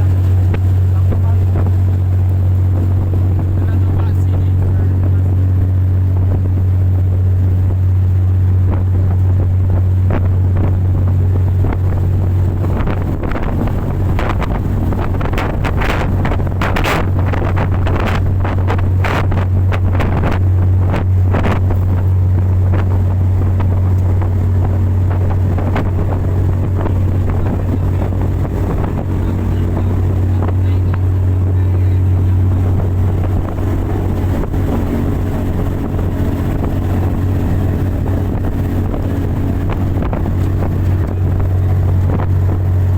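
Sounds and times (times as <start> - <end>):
motorboat engine drone: 0.0 - 42.9
rushing bursts of water: 0.0 - 42.9
wind buffeting microphone: 0.0 - 42.9.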